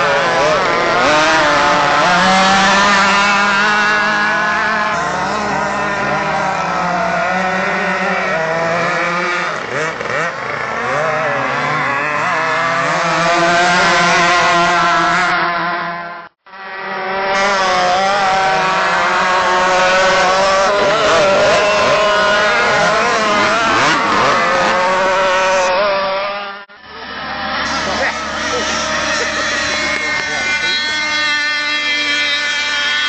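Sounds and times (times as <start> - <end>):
small boat engines racing: 0.0 - 33.0.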